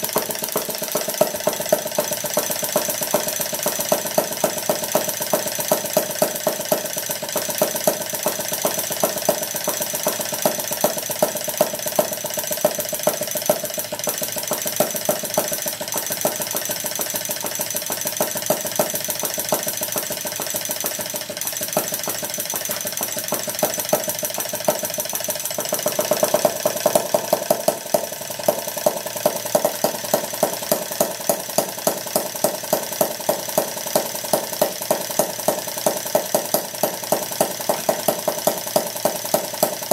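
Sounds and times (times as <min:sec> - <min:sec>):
engine firing pops: 0:00.0 - 0:39.9
model engine clattering: 0:00.0 - 0:39.9.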